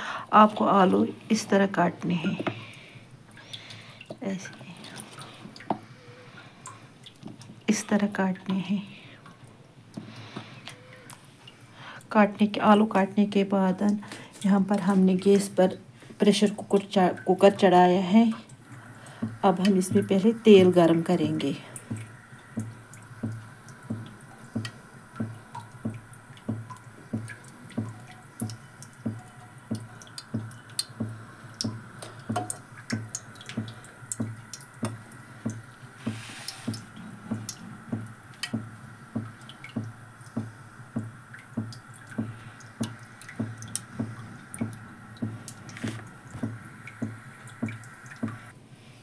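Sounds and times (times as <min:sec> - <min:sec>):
water dripping: 0:00.0 - 0:48.6.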